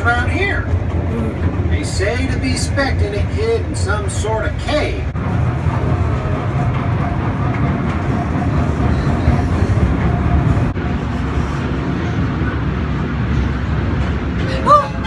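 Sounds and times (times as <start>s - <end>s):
small train rumbling on track: 0.0s - 15.0s.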